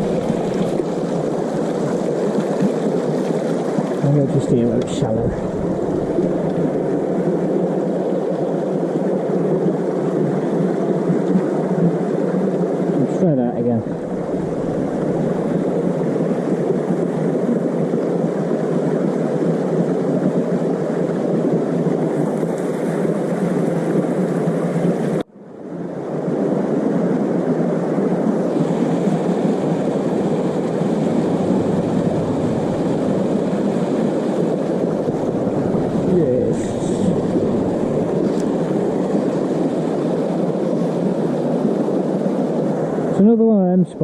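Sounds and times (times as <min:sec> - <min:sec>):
shallow river water flowing: 0:00.0 - 0:44.0.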